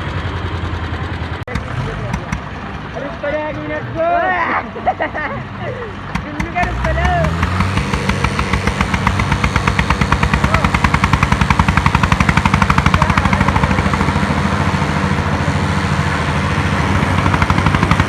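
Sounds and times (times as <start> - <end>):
tractor diesel engine chugging: 0.0 - 18.0.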